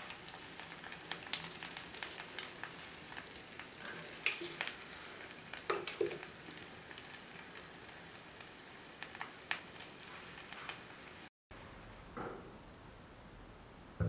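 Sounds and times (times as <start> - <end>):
hot metal sizzling with crackling pops: 0.0 - 11.3.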